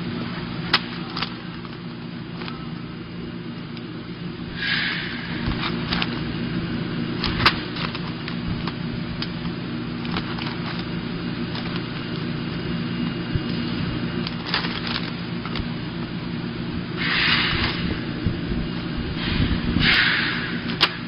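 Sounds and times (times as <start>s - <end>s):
bags rustling and tapping: 0.0s - 2.9s, 4.6s - 21.0s
packaging machine humming: 0.0s - 21.0s.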